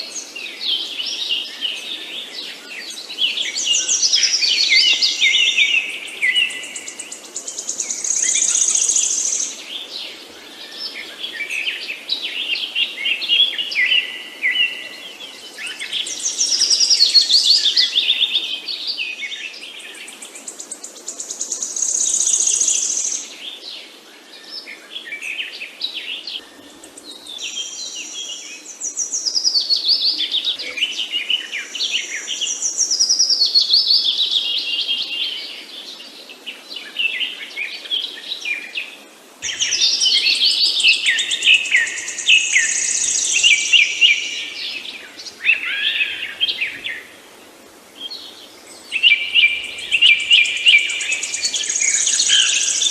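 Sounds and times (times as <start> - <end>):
songbirds singing and chirping: 0.0 - 52.9.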